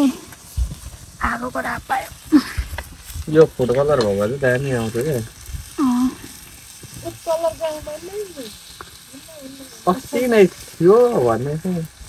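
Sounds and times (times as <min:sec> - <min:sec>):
pork sizzling on hot stone: 0:00.0 - 0:12.0.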